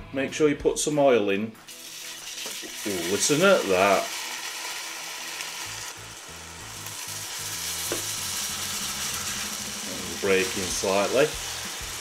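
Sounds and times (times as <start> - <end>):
patties sizzling in hot oil: 1.7 - 12.0.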